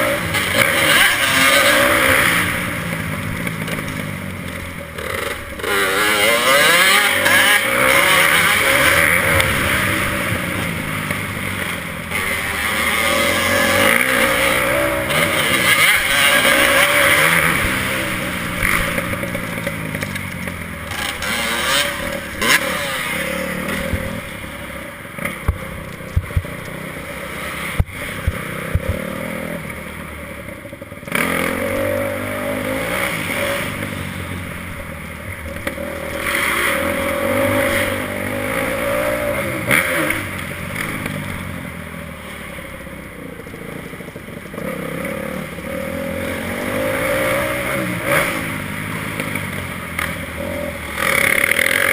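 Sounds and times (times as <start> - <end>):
motocross bike engine revving: 0.0 - 51.9
steady rush of noise: 0.0 - 51.9.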